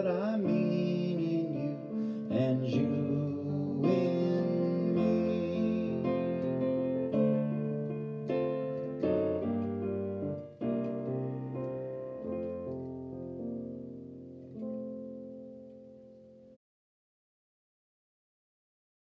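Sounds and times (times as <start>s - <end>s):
digital piano playing hymn chords: 0.0s - 16.6s.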